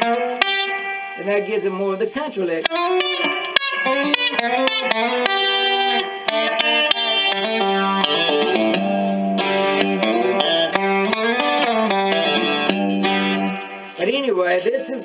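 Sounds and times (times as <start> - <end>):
electric guitar country lick: 0.0 - 15.0.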